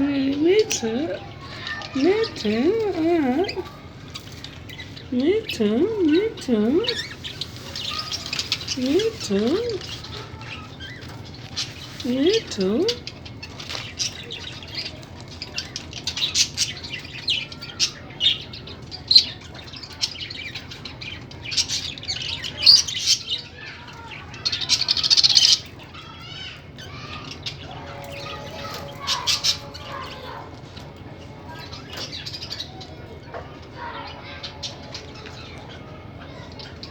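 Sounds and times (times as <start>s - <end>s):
parrot squawking and chirping: 0.0s - 36.9s.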